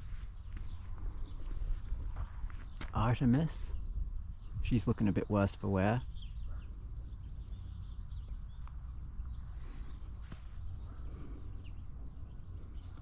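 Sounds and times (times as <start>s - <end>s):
faint footsteps on dry ground: 0.0s - 6.0s, 7.1s - 13.0s
faint bird chirps: 0.0s - 13.0s
low wind rumble on microphone: 0.0s - 13.0s.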